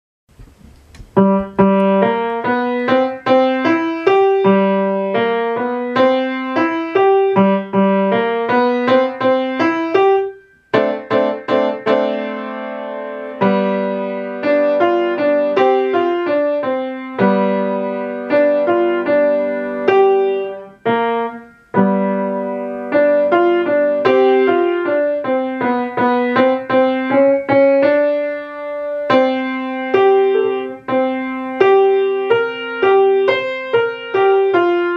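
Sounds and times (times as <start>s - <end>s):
boogie piano piece: 0.3s - 34.9s.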